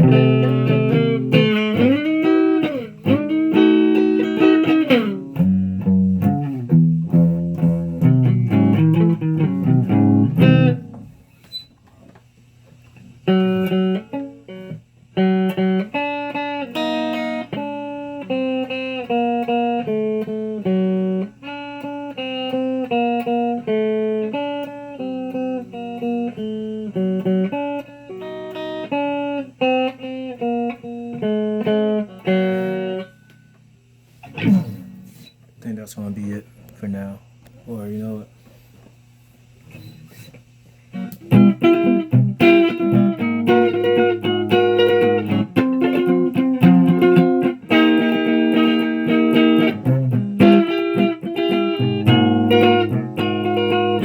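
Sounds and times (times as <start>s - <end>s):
electric guitar playing: 0.0s - 11.3s, 13.2s - 35.3s, 40.9s - 54.0s
faint steady hum: 0.0s - 54.0s.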